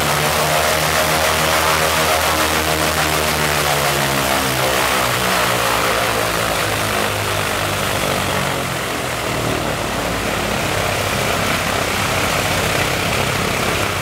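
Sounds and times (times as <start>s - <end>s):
radial aircraft engine running: 0.0s - 14.0s.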